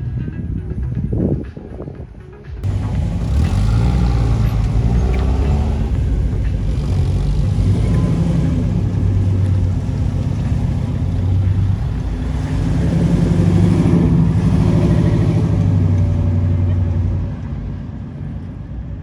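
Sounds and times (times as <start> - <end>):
car engine rumbling: 2.6 - 18.6.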